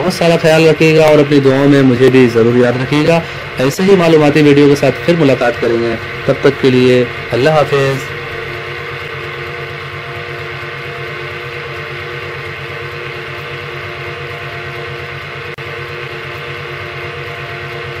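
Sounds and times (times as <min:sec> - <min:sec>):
water pump motor humming: 0:00.0 - 0:18.0.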